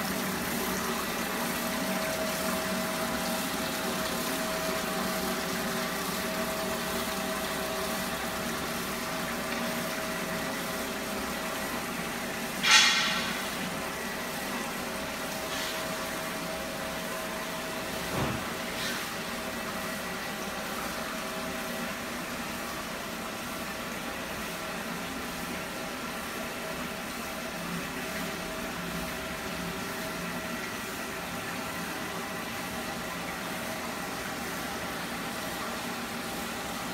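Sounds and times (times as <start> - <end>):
water and slurry running: 0.0 - 36.9.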